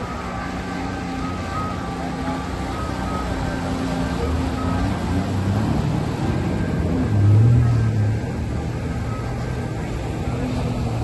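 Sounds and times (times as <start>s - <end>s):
jet ski engine passing: 0.7s - 11.0s.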